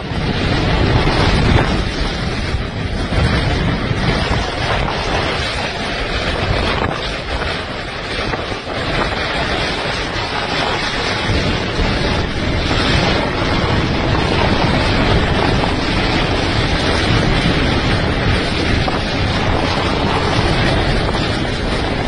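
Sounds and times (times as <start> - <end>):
hurricane-force wind on microphone: 0.0 - 22.0.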